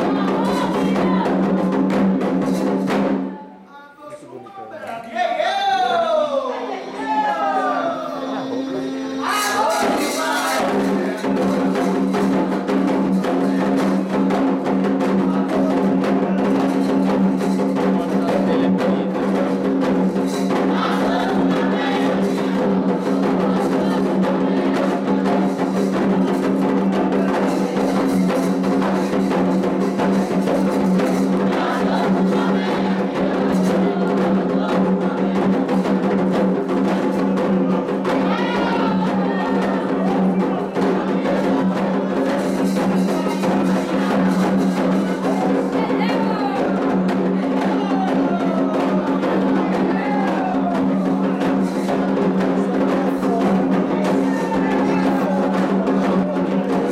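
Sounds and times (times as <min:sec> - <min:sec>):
faint singing: 0:00.0 - 0:02.4, 0:03.1 - 0:56.9
ritual hand drumming: 0:00.0 - 0:03.4, 0:06.8 - 0:56.9
struck percussion keeping time: 0:00.0 - 0:03.4, 0:06.7 - 0:56.9.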